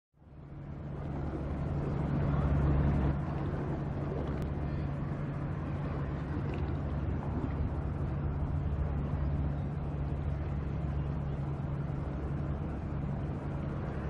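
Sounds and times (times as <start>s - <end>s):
engine drone: 0.2s - 14.0s
rush of noise: 0.3s - 14.0s.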